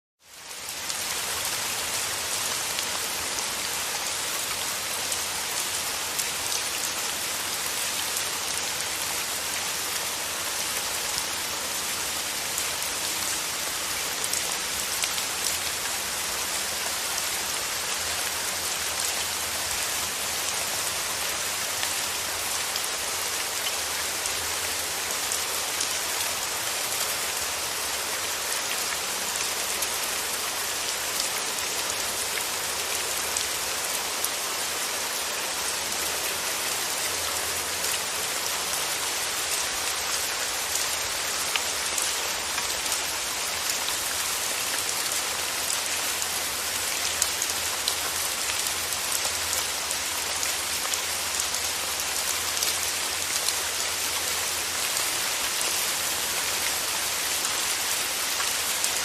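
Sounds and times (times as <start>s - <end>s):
steady rain falling: 0.2s - 59.0s.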